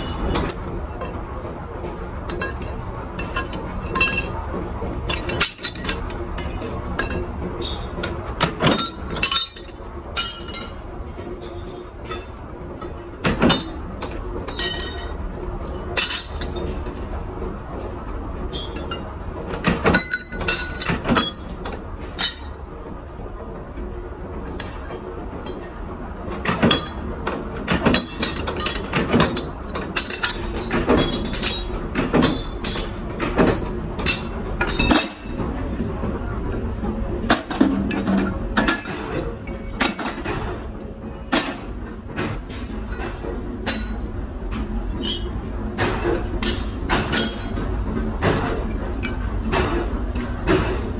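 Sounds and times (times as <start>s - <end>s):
low machine hum: 0.0s - 50.9s.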